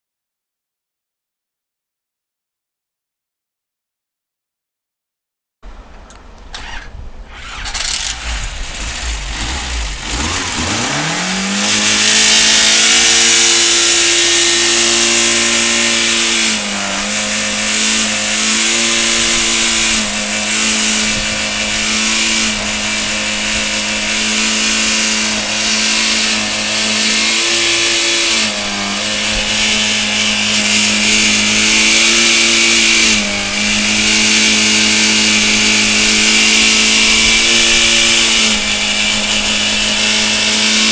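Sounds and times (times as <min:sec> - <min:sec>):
loud mechanical clatter: 0:06.5 - 0:40.9
car engine revving high: 0:07.4 - 0:40.9.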